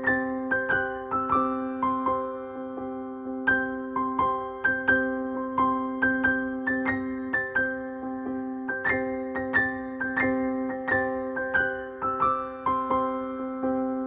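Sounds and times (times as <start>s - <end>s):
soft keyboard music: 0.0s - 14.0s.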